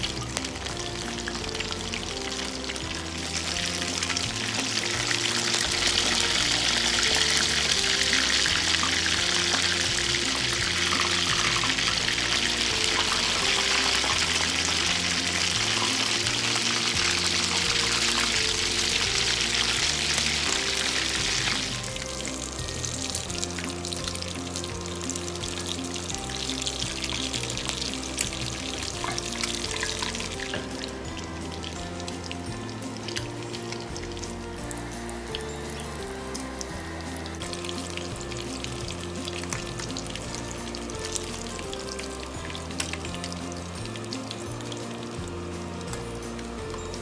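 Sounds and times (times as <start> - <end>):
background music: 0.0 - 47.0
fish sizzling in hot oil: 0.0 - 47.0.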